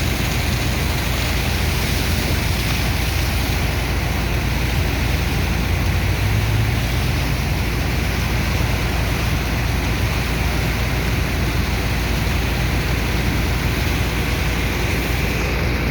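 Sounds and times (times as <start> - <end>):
engine and water pump running: 0.0 - 15.9
rushing pumped water and sand: 0.0 - 15.9.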